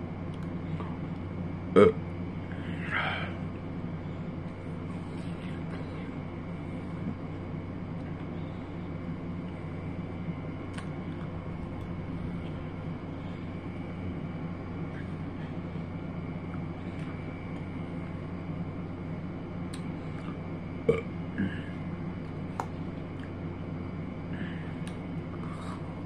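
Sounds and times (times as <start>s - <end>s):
mechanical drone with low hum: 0.0s - 26.0s.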